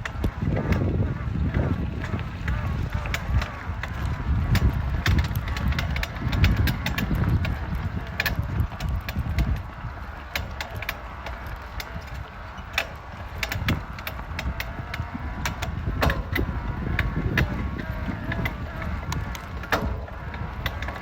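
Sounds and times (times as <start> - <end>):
bike clunking and creaking: 0.0 - 21.0.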